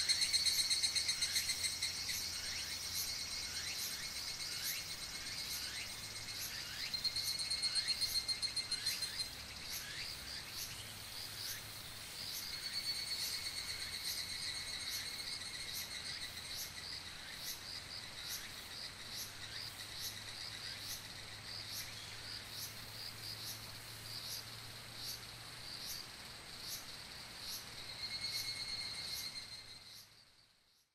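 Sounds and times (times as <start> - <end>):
cicada trilling song: 0.0 - 30.5
cicadas repeating short notes: 0.0 - 30.8.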